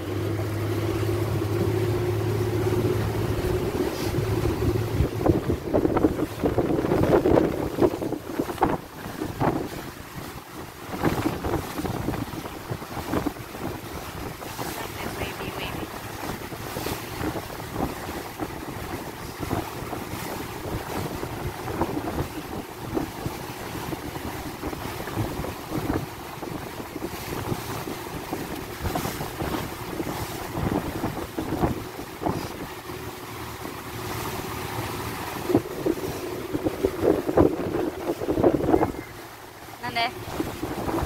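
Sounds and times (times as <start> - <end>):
water splashing along boat hull: 0.0 - 41.0
wind buffeting microphone: 0.4 - 41.0.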